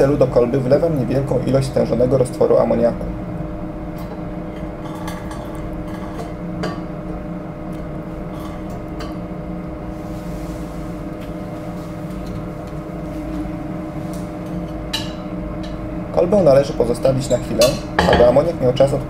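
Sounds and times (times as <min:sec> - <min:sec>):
extraction fan humming: 0:00.0 - 0:19.0.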